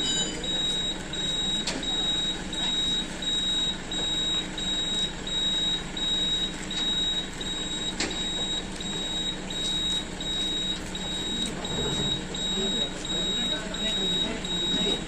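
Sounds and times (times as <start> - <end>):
truck warning beeper: 0.0 - 15.0.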